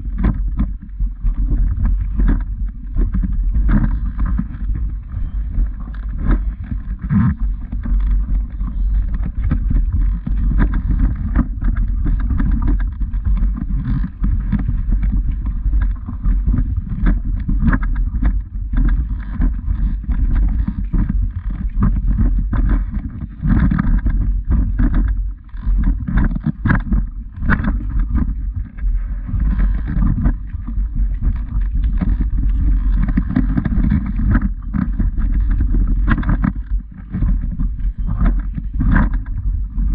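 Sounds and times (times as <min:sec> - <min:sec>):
microphone handling noise: 0:00.0 - 0:39.9
wind rumble on microphone: 0:00.0 - 0:39.9.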